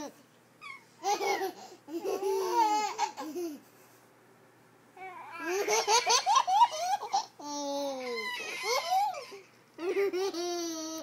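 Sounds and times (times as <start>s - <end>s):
baby laughing: 0.0s - 3.7s, 5.3s - 11.0s.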